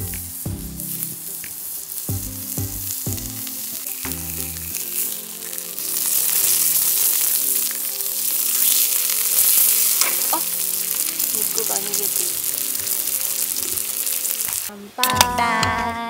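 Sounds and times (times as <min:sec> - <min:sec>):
meat sizzling in a pan: 0:00.0 - 0:14.7
light background music: 0:00.0 - 0:16.0.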